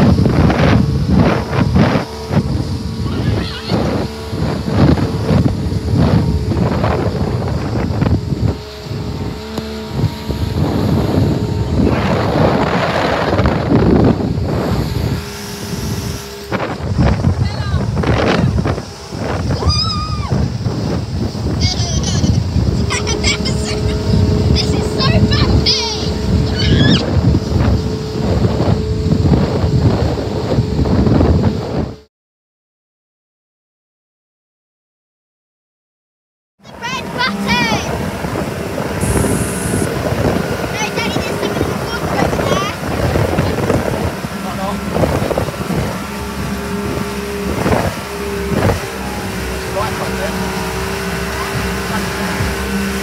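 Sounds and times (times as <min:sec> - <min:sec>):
water rushing past hull: 0:00.0 - 0:32.0, 0:36.6 - 0:53.0
boat engine humming: 0:00.0 - 0:32.1, 0:36.6 - 0:53.0
wind gusting over microphone: 0:00.0 - 0:32.1, 0:36.6 - 0:53.0.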